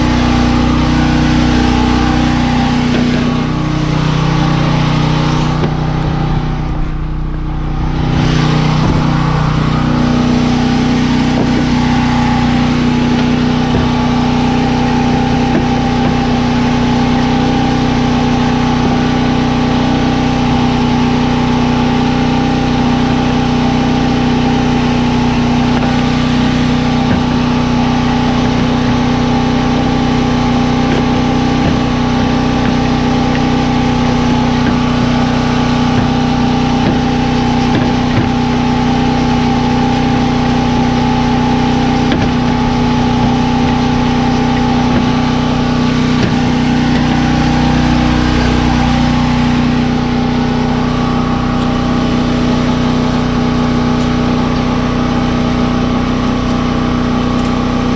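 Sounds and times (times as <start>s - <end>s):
machine drone: 0.0s - 57.9s.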